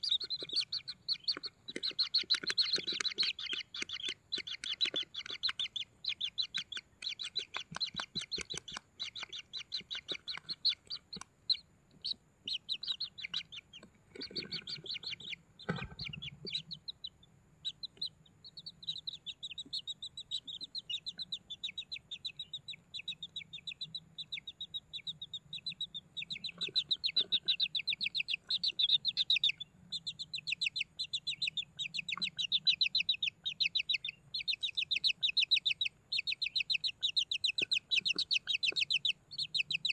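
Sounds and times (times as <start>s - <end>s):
bird chicks begging chirps: 0.0s - 39.9s.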